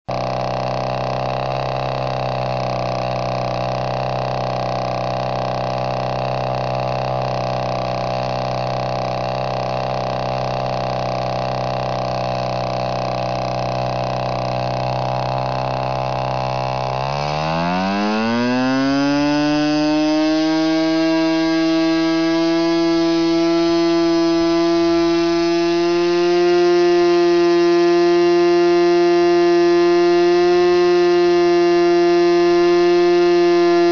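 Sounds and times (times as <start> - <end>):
model engine with propeller: 0.1 - 33.9.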